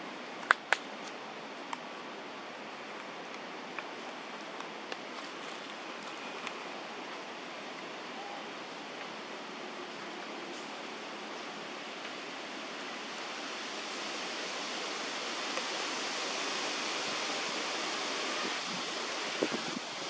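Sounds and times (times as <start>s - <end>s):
steady outdoor rushing noise: 0.0s - 20.0s.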